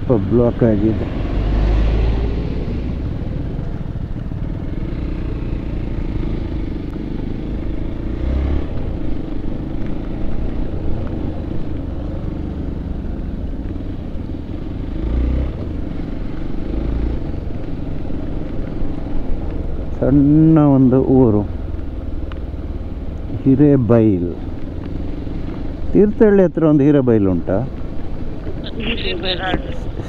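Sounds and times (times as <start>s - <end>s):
wind rumbling on microphone: 0.0s - 26.4s
motorcycle engine running: 0.0s - 30.0s.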